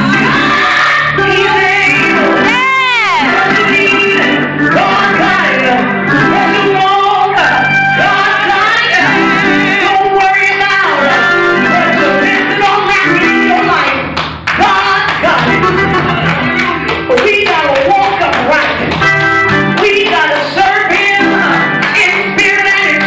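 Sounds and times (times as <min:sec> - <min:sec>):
voices singing church music: 0:00.0 - 0:23.0.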